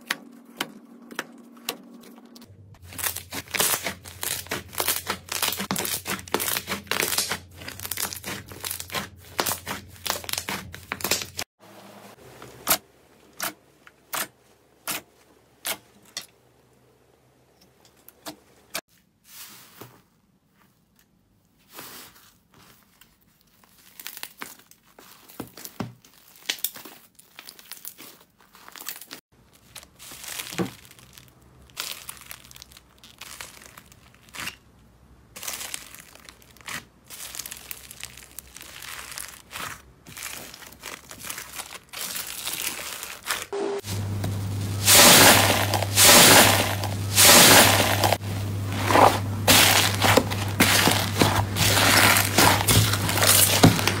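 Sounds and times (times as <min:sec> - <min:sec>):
slime crinkling and crackling: 0:00.1 - 0:11.5, 0:20.8 - 0:54.0.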